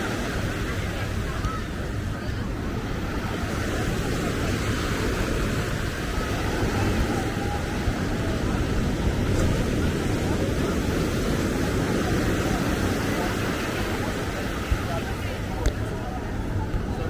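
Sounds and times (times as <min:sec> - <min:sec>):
faint voices of passers-by: 0:00.0 - 0:17.0
ocean surf: 0:00.0 - 0:17.0.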